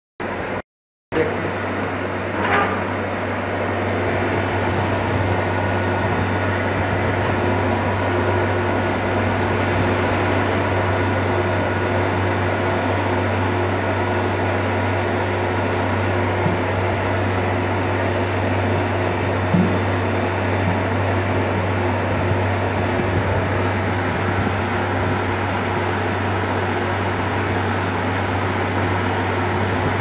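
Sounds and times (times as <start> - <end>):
refrigeration unit humming: 0.2 - 30.0.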